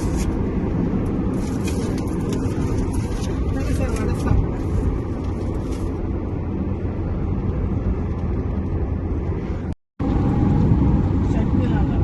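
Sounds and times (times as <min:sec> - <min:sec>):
car travelling on road rumble: 0:00.0 - 0:12.0.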